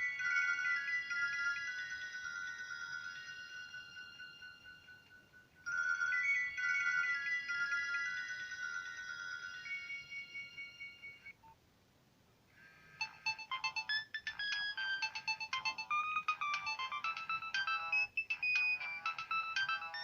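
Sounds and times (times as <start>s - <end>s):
mobile phone ringtones: 0.0s - 11.4s, 12.6s - 20.0s.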